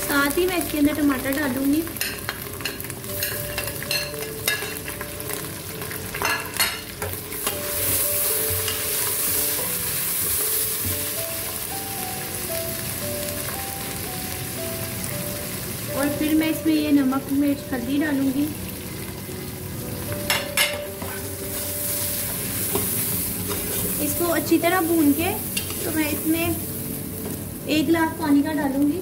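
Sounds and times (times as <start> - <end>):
tomatoes sizzling in hot oil: 0.0 - 29.0.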